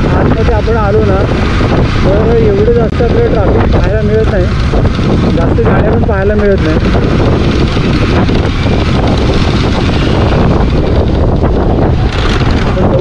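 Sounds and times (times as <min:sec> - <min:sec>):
motorcycle engine running: 0:00.0 - 0:13.0
road noise: 0:00.0 - 0:13.0
wind rushing over microphone: 0:00.0 - 0:13.0.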